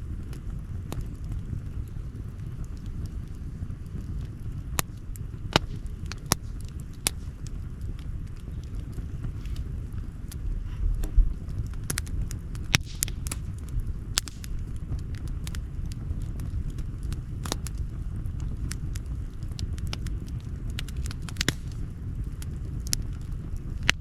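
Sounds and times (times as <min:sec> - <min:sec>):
campfire crackling and popping: 0:00.0 - 0:24.0
low rumble: 0:00.0 - 0:24.0.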